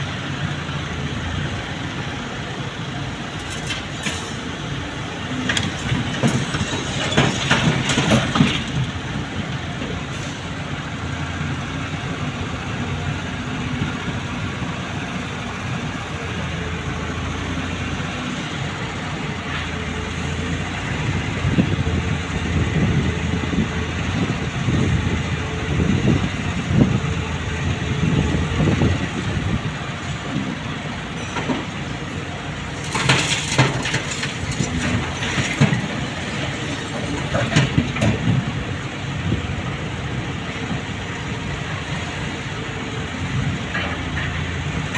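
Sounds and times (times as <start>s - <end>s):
wheel loader diesel engine rumbling: 0.0s - 44.9s.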